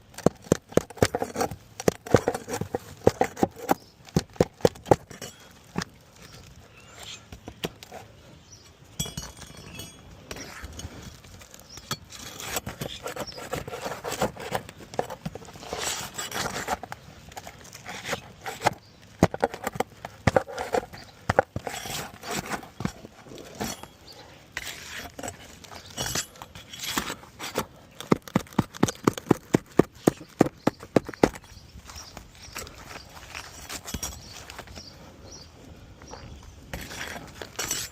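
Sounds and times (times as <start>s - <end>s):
hand tools scraping and prying: 0.0s - 8.2s, 9.0s - 34.9s, 36.1s - 37.9s.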